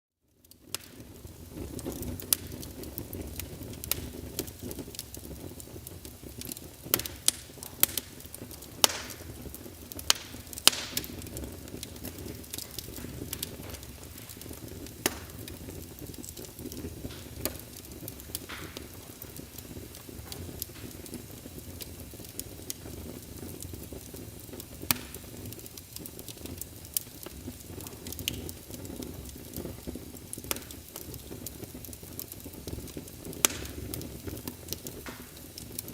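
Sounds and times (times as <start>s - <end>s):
fire crackles and pops: 0.2s - 35.9s
flames rumbling and hissing: 0.3s - 35.9s.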